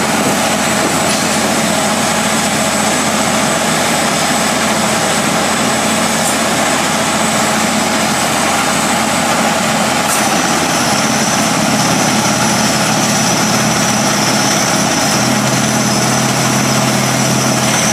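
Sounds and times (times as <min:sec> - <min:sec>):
drilling rig drone: 0:00.0 - 0:17.9
high machinery whine: 0:00.0 - 0:17.9.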